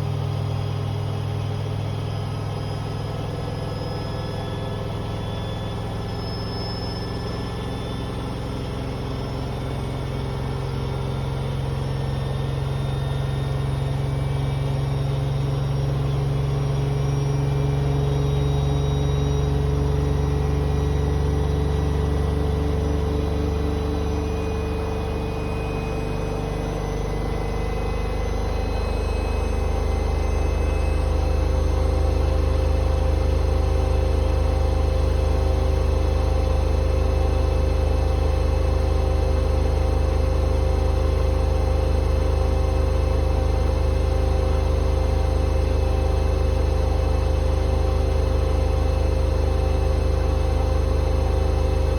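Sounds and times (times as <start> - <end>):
motor whine rising in pitch: 0.0 - 51.9.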